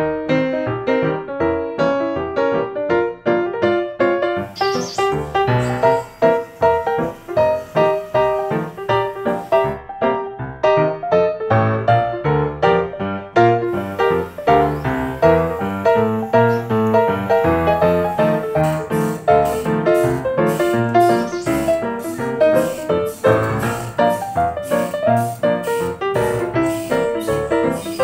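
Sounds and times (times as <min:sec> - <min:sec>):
quick rhythmic piano tune: 0:00.0 - 0:28.0.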